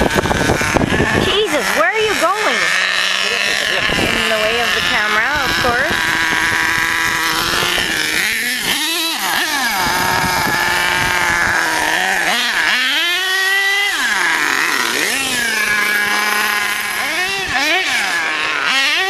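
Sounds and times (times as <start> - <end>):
rc truck engine whine: 0.0 - 19.0.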